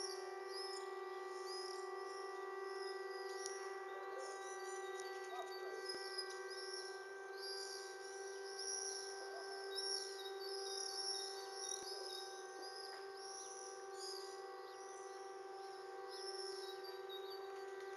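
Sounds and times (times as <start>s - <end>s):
steady low siren tone: 0.0s - 17.9s
birds chirping and singing: 2.7s - 17.9s.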